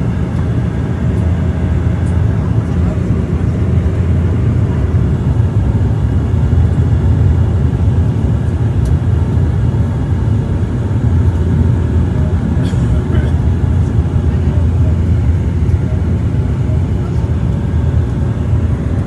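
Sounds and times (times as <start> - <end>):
airplane engines droning: 0.0 - 19.0.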